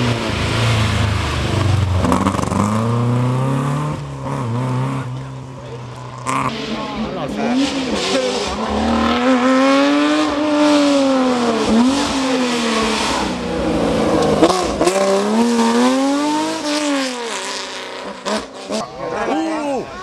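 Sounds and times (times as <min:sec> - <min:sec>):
rally car engine racing: 0:00.0 - 0:20.0.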